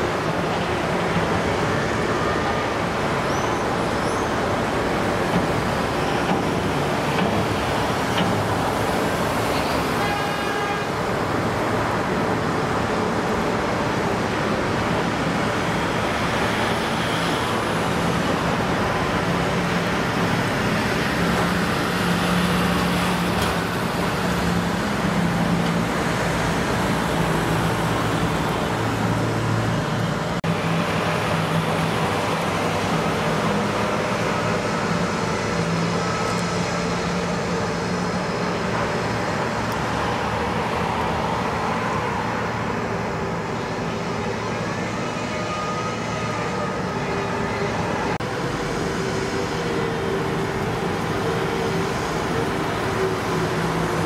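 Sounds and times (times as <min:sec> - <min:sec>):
motor traffic noise: 0:00.0 - 0:54.0.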